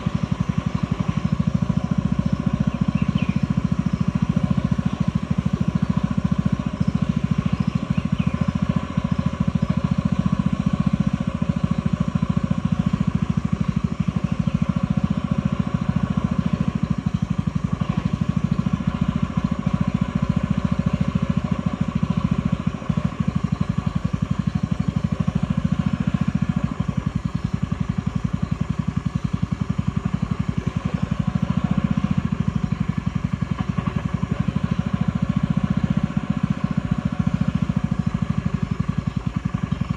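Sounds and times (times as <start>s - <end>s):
boat motor chugging: 0.0s - 39.9s.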